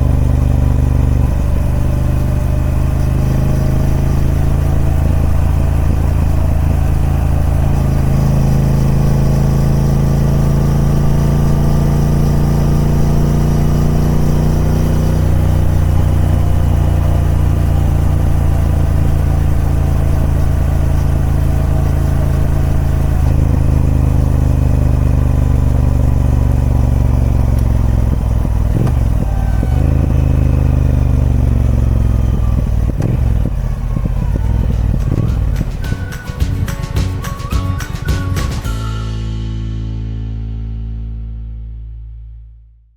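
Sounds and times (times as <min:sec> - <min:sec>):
motorcycle engine running: 0:00.0 - 0:41.7.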